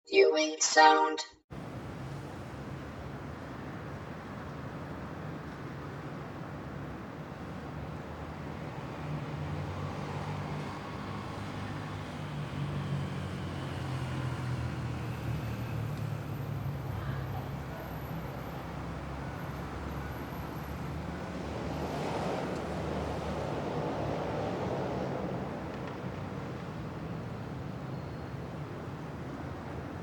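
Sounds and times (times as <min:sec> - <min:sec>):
traffic rumble: 0:01.5 - 0:30.0.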